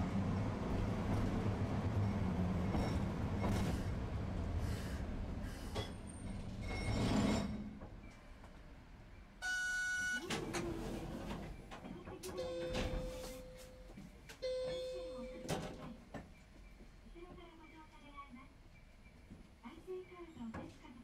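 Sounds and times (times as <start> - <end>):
streetcar humming and rumbling: 0.0 - 20.9.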